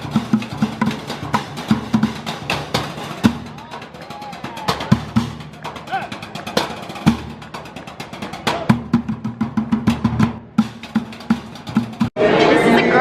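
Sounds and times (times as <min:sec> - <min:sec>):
fast drumming: 0:00.0 - 0:12.2.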